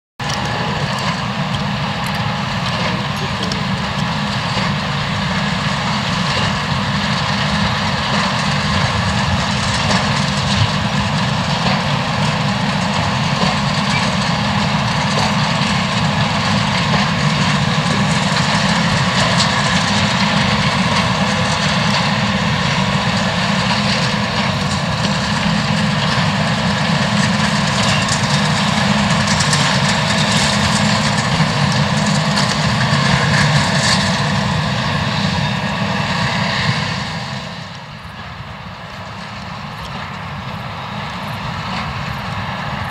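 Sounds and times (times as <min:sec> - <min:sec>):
tractor engine droning: 0:00.2 - 0:42.9.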